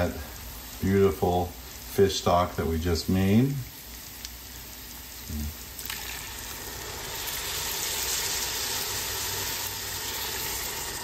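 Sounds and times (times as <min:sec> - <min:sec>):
liquid sizzling in hot pot: 0:00.0 - 0:11.0.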